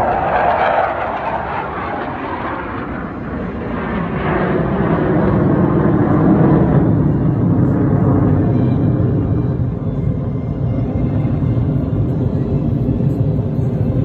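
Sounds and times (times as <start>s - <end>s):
jet engines rumbling overhead: 0.0s - 14.0s.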